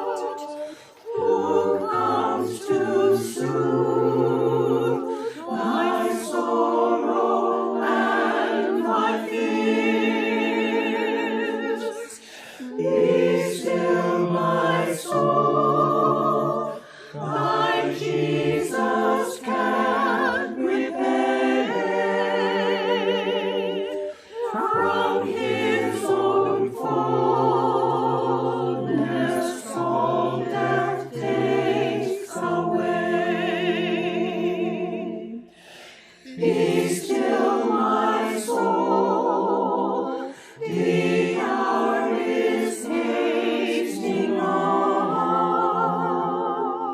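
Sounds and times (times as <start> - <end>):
unaccompanied choir singing: 0.0 - 46.9.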